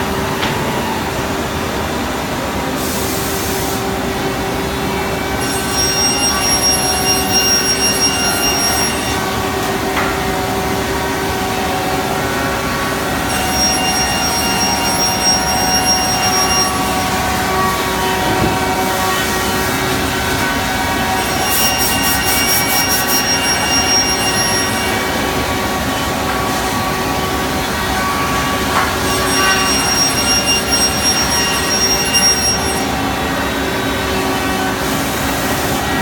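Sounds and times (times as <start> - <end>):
cnc router machining: 0.0 - 36.0.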